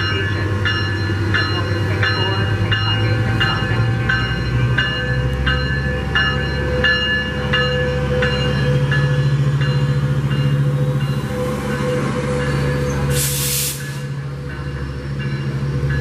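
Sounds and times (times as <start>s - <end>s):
diesel locomotive drone: 0.0s - 16.0s
railroad bell ringing: 0.0s - 16.0s.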